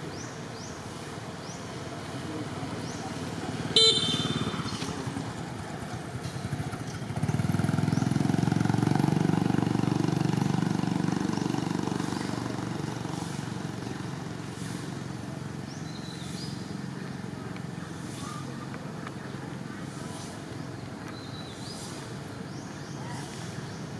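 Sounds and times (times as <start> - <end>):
vehicle engine rumble passing: 1.2 - 20.7.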